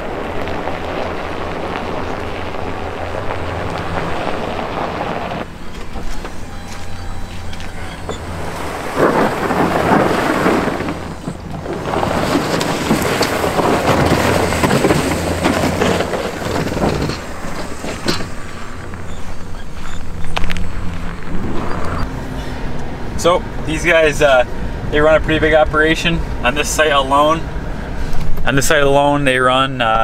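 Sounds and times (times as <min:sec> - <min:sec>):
plow blade scraping snow: 0:00.0 - 0:29.0
truck engine running: 0:00.0 - 0:29.1.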